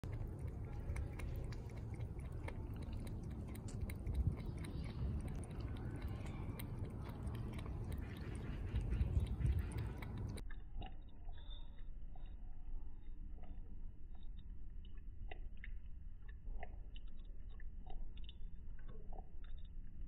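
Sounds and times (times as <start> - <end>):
cat lapping water: 0.0 - 20.0
low rumble: 0.0 - 20.0.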